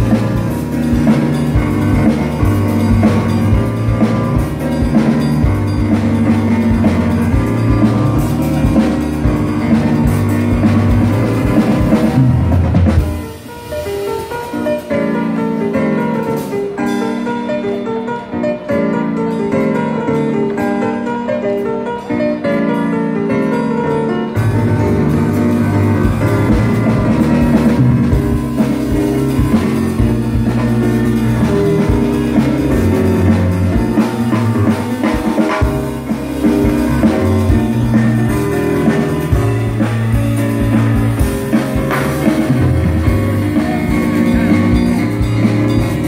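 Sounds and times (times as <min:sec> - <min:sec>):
bass: 0:00.0 - 0:46.0
drums: 0:00.0 - 0:46.0
electric keyboard music: 0:00.0 - 0:46.0.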